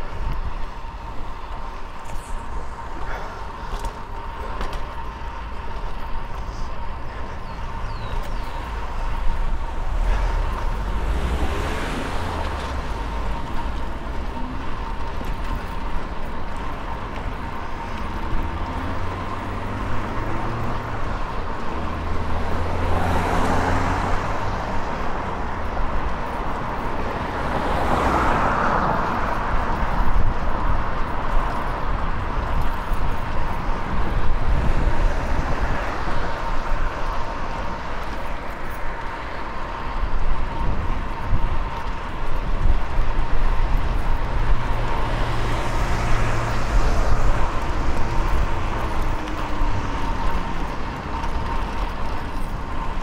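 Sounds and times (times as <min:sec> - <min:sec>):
city traffic noise: 0:00.0 - 0:53.0
passing vehicles: 0:00.0 - 0:53.0.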